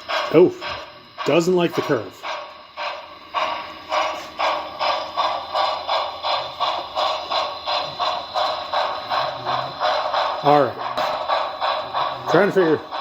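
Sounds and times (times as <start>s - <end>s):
model train steam chuffing: 0.0s - 13.0s.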